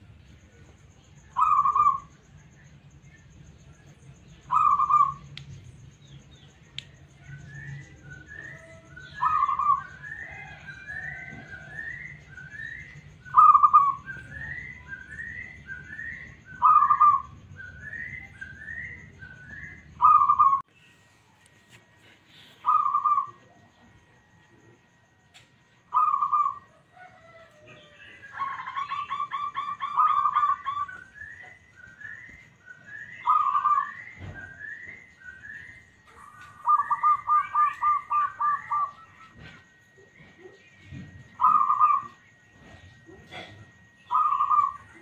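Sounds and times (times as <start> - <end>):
low background hum: 0.0 - 45.0
dove cooing: 1.2 - 2.2, 4.4 - 5.4, 7.2 - 20.7, 22.4 - 24.4, 25.9 - 45.0.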